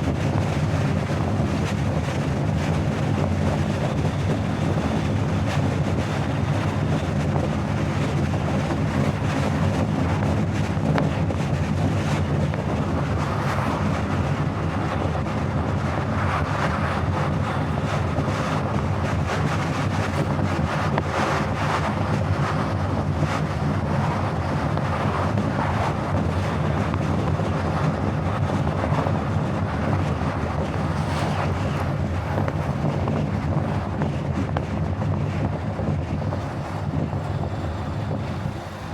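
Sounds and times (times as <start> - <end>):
wind noise: 0.0 - 38.9.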